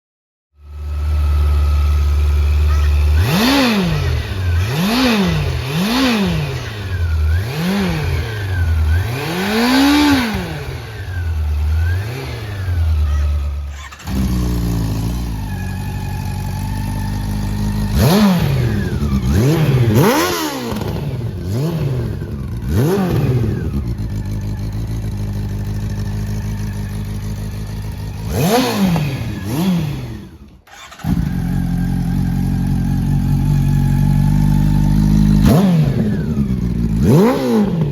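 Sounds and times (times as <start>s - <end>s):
motorcycle engine revving and idling: 0.6s - 37.9s.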